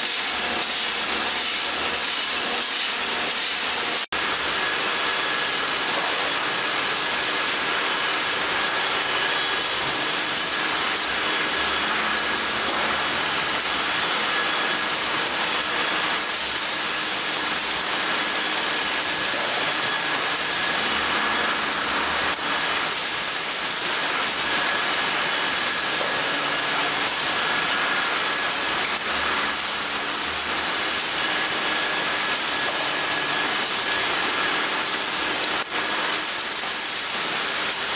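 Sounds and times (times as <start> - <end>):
packaging machinery din: 0.0 - 37.9.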